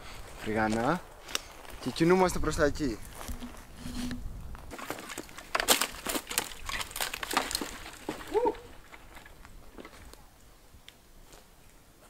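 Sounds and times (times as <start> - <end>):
footsteps crunching through scrub: 0.0 - 10.2.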